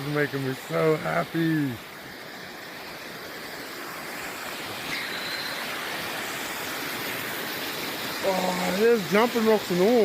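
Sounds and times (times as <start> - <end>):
flowing water rushing: 0.0 - 10.0.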